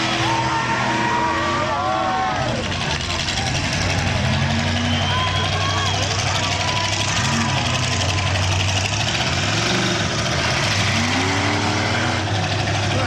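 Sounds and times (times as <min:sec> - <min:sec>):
car engine revving: 0:00.0 - 0:13.0
car engines running together: 0:00.0 - 0:13.0.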